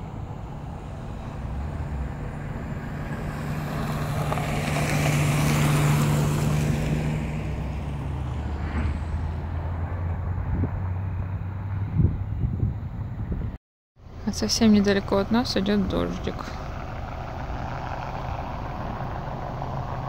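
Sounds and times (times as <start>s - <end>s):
vehicle passing on road: 0.0s - 20.0s.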